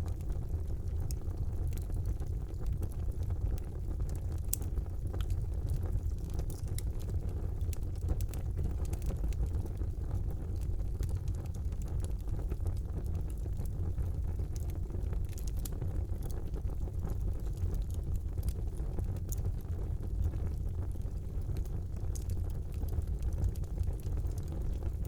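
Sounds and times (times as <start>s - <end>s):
fire crackling and popping: 0.0s - 25.0s
low roar of flames: 0.0s - 25.0s.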